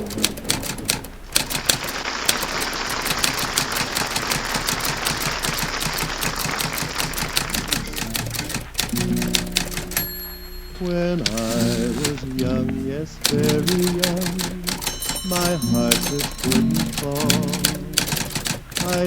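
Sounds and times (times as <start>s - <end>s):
steady hiss: 0.0s - 19.0s
typewriter keys clacking: 0.0s - 19.0s.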